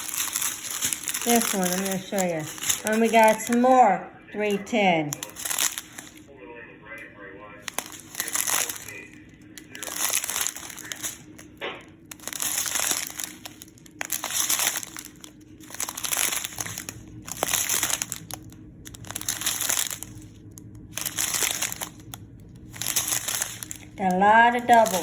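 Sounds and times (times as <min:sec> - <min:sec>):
plastic bags crinkling: 0:00.0 - 0:06.3, 0:07.6 - 0:25.0.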